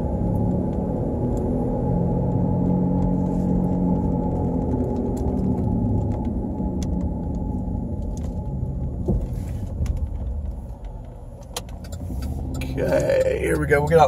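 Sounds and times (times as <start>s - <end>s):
road noise: 0.0s - 14.0s
wheel bearing growling rumble: 0.0s - 14.0s.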